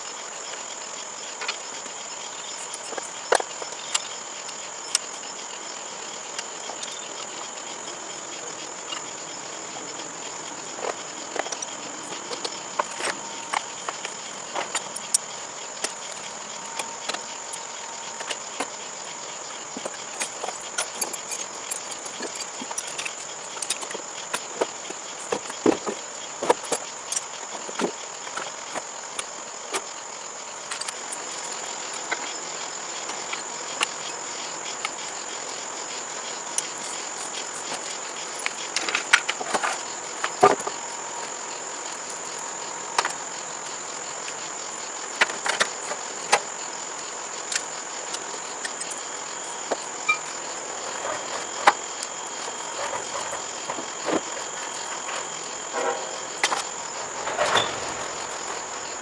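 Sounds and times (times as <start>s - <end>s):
insect trill: 0.0s - 59.0s.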